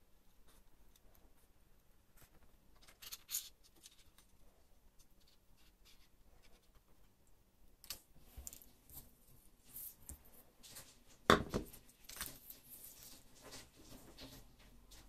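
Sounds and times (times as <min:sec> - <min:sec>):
faint handling sounds: 0:00.0 - 0:15.0.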